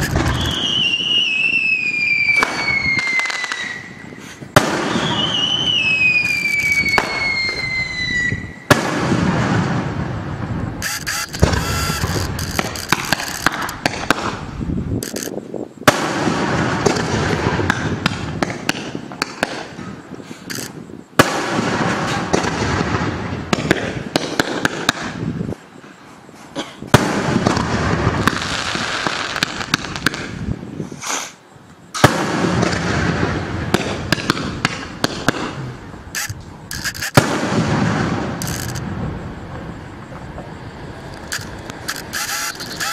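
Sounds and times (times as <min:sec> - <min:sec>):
fireworks crackling: 0:00.0 - 0:25.2, 0:27.0 - 0:30.7, 0:32.0 - 0:42.9
fireworks bangs: 0:00.0 - 0:25.3, 0:26.9 - 0:30.5, 0:32.0 - 0:42.9.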